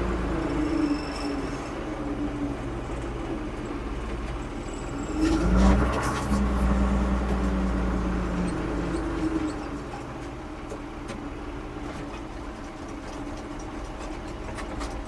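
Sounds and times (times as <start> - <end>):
diesel engine running: 0.0 - 12.4
engine clatter: 0.0 - 15.0.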